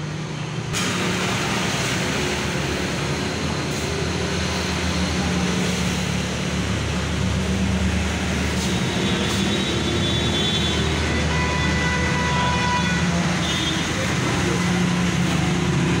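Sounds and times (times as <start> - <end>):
constant background noise: 0.0 - 16.0.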